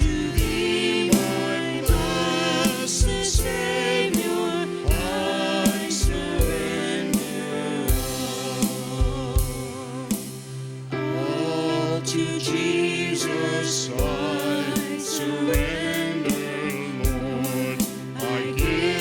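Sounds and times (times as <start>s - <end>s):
drum beat: 0.0s - 10.4s, 14.0s - 19.0s
people singing gospel: 0.0s - 19.0s.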